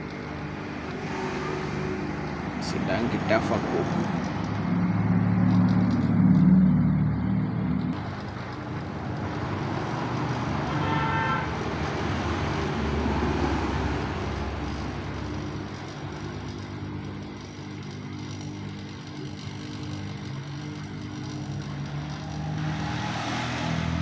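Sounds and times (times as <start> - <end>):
compressor humming: 0.0 - 24.0.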